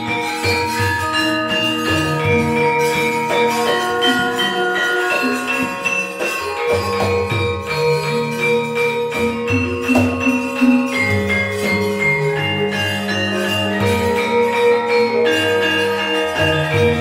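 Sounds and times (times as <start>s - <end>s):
gamelan ensemble playing: 0.0s - 17.0s.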